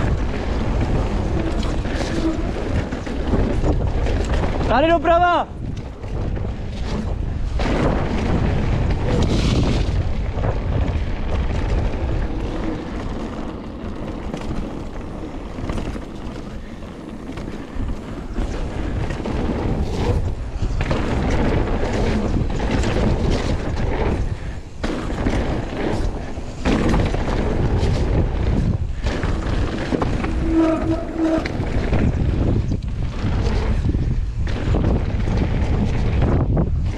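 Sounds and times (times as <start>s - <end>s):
bike rattling and knocking: 0.0s - 36.9s
wind rumbling on microphone: 0.0s - 36.9s.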